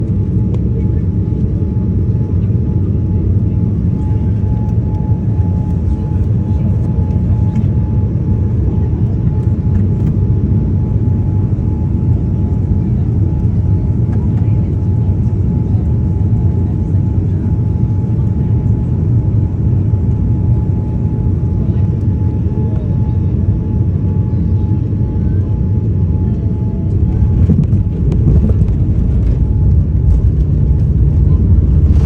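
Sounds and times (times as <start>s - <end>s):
aircraft cabin engine rumble: 0.0s - 32.0s.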